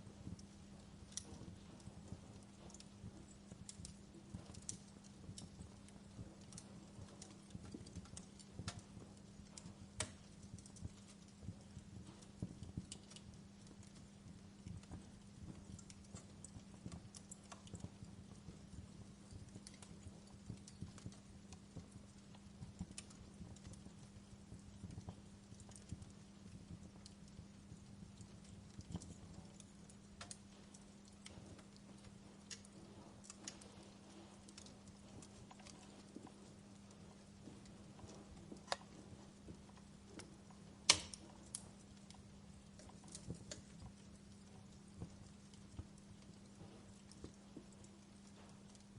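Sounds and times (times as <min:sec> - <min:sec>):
faint steady hum: 0:00.0 - 0:48.9
wood fire crackling: 0:00.0 - 0:48.9.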